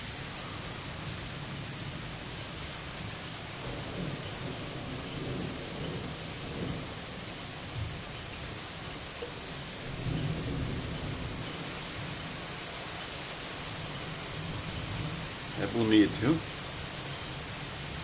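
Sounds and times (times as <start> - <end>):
heavy rain on cobblestones: 0.0 - 18.0
thunder rumble: 0.4 - 12.6, 13.9 - 16.6.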